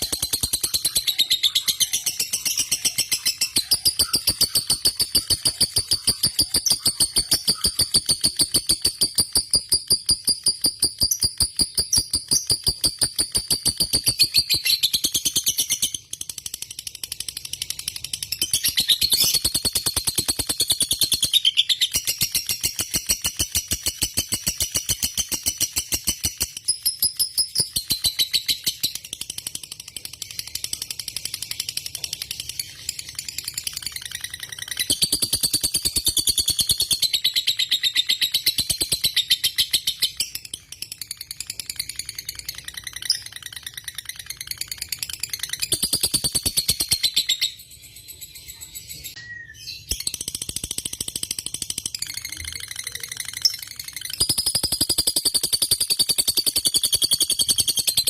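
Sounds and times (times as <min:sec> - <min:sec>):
lovebird chattering trill: 0:00.0 - 0:16.1, 0:18.4 - 0:29.2, 0:30.0 - 0:47.6, 0:48.5 - 0:58.0.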